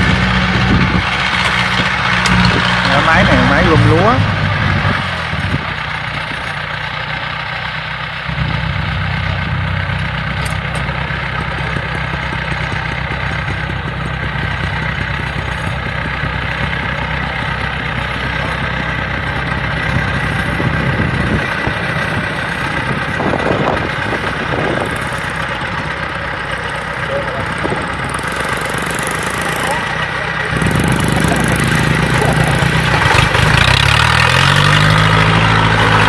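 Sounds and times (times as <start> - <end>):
harvesting machine engine running: 0.0 - 36.0.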